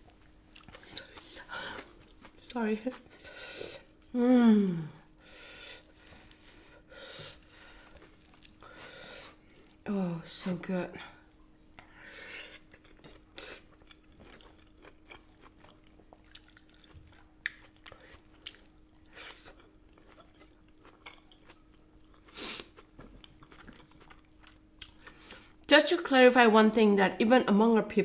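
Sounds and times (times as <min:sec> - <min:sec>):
close chewing with crisp crunches: 0:00.0 - 0:04.1, 0:04.9 - 0:09.9, 0:11.0 - 0:25.7.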